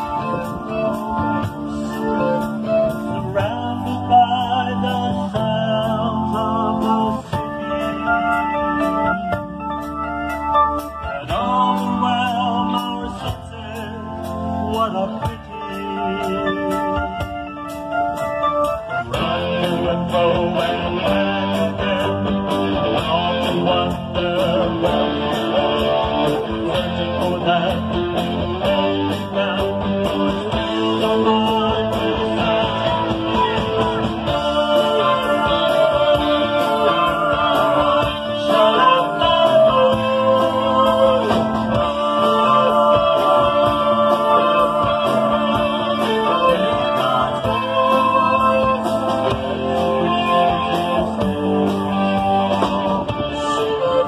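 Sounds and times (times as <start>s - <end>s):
lead vocal singing: 0.0s - 9.4s, 10.8s - 54.0s
drums with cymbal beat: 0.0s - 54.0s
electric guitars: 0.0s - 54.0s.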